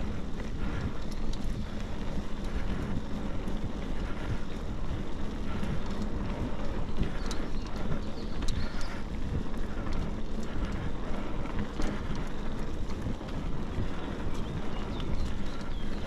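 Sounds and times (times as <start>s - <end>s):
bike tyres rolling on dirt: 0.0s - 16.0s
wind buffeting microphone: 0.0s - 16.0s.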